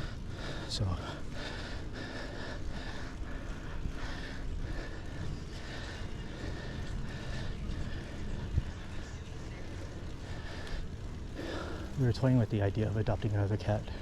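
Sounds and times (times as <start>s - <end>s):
bicycle tyres rolling on road: 0.0s - 14.0s.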